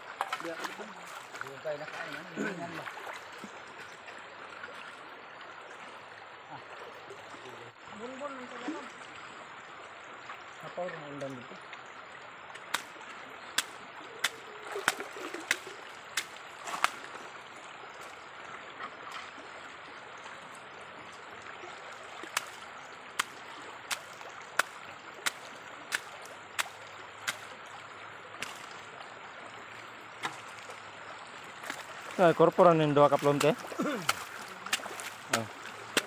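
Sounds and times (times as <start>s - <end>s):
river water running: 0.0s - 36.0s.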